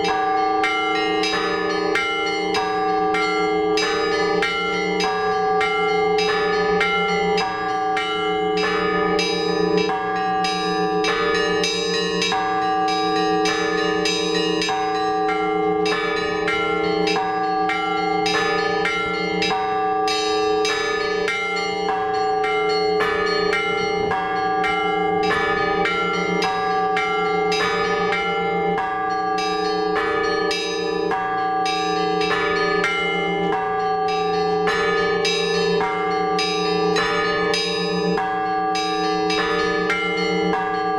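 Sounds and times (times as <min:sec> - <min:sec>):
lower bells ringing: 0:00.0 - 0:40.9
rapid peal of small bells: 0:00.0 - 0:40.9.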